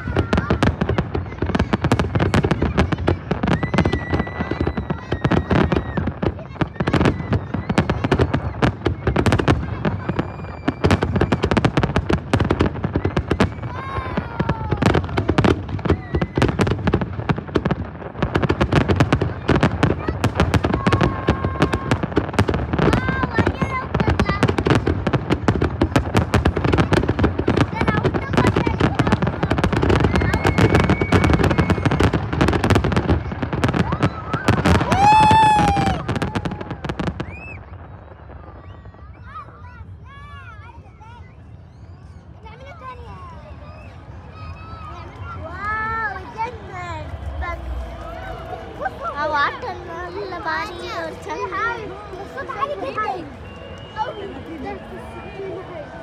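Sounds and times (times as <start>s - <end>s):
fireworks bursts and crackling bangs: 0.0s - 56.0s.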